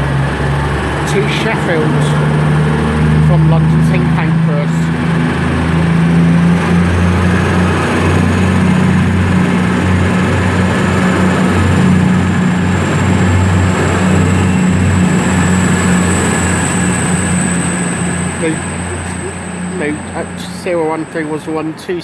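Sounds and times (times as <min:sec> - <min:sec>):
high whine rising in pitch: 0:00.0 - 0:22.0
train diesel engines under load: 0:00.0 - 0:22.0.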